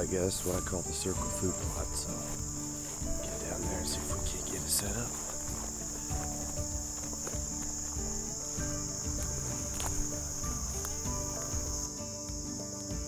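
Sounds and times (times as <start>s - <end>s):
insects trilling: 0.0s - 13.0s
soft background music: 0.0s - 13.0s.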